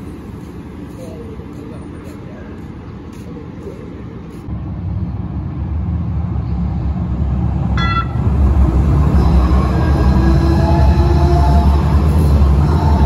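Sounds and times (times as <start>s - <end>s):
light-rail train passing: 0.0s - 13.0s.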